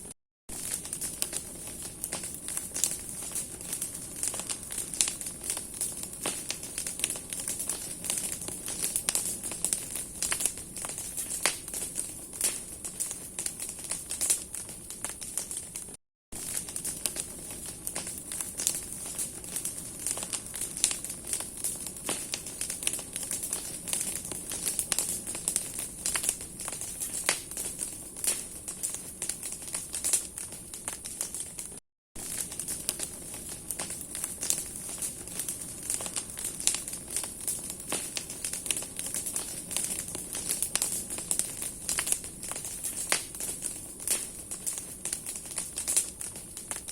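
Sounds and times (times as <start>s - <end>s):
bonfire crackling and snapping: 0.5s - 46.9s
fire hissing: 0.5s - 46.9s.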